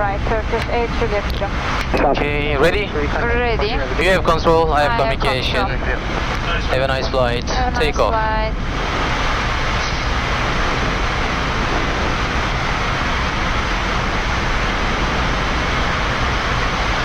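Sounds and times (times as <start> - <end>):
jet engines and airflow rushing: 0.0 - 17.0.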